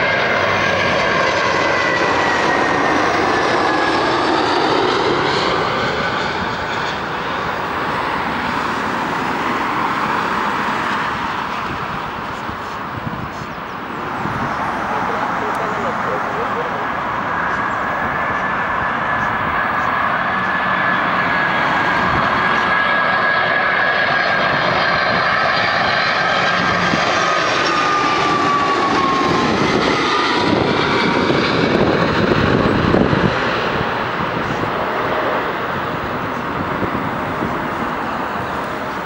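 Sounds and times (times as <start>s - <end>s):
jet airliner passing overhead: 0.0s - 39.0s
jet engine whine: 0.0s - 39.0s.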